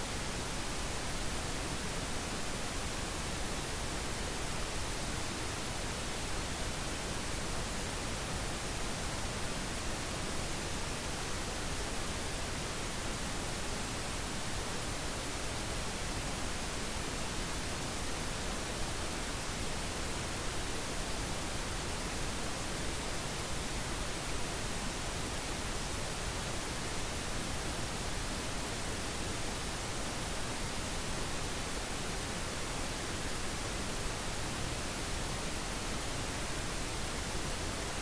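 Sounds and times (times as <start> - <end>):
pink noise hiss: 0.0 - 38.0.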